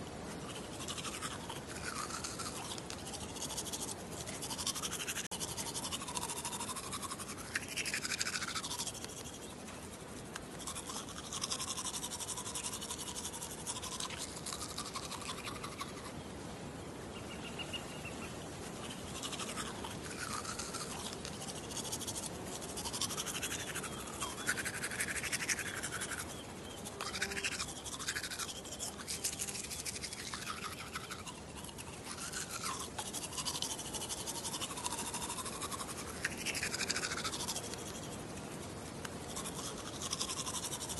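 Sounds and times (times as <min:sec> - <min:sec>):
toothbrush scrubbing: 0:00.0 - 0:16.1, 0:18.5 - 0:40.9.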